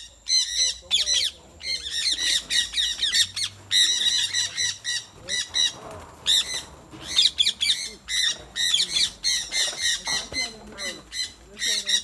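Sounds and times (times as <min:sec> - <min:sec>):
parrots squawking and chattering: 0:00.3 - 0:12.0.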